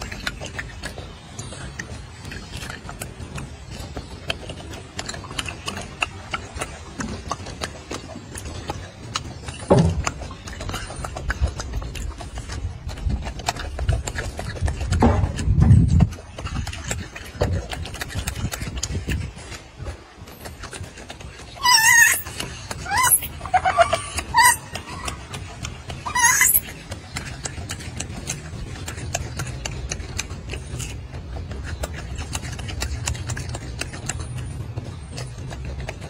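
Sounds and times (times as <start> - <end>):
monkey chewing fruit: 0.0 - 36.0.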